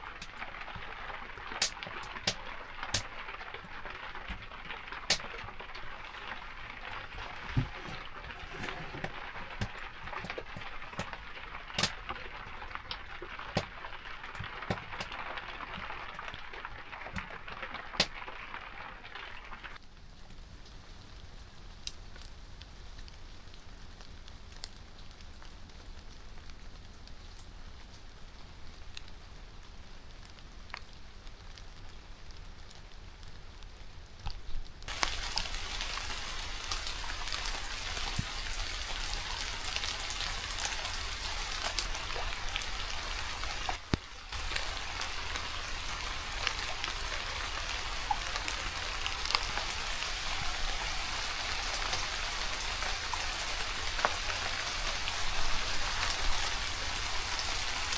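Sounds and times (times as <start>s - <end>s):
raindrops ticking: 0.0s - 57.9s
steady rain: 0.0s - 57.9s.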